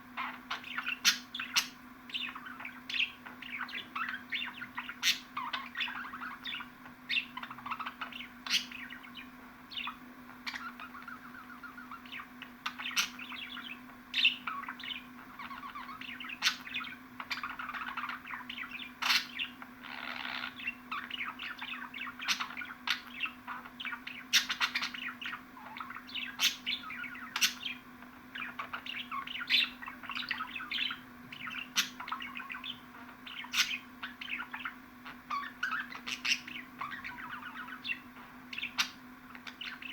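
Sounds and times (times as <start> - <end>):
faint steady hum: 0.0 - 39.9
budgerigars chattering and chirping: 0.1 - 39.9.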